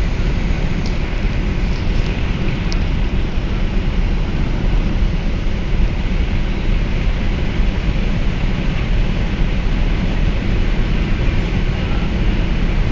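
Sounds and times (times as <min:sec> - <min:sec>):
car driving on highway: 0:00.0 - 0:12.9.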